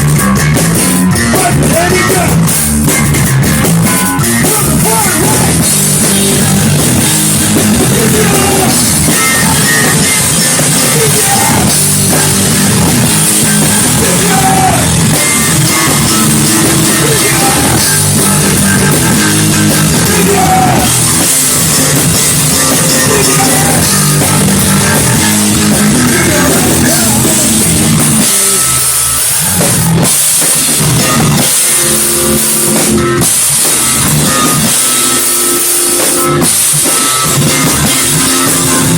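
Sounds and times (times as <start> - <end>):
guitar: 0.0 - 38.9
loud drum kit: 0.0 - 38.9
rock band playing live: 0.0 - 38.9.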